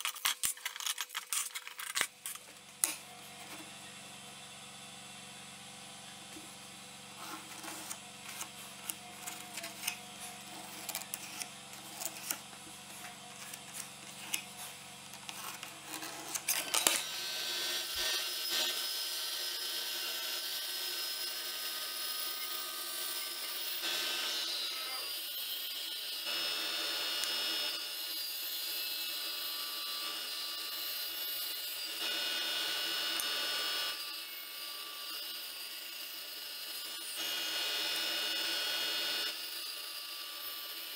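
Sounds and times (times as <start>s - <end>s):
band saw cutting wood: 0.0s - 3.9s, 6.2s - 40.9s.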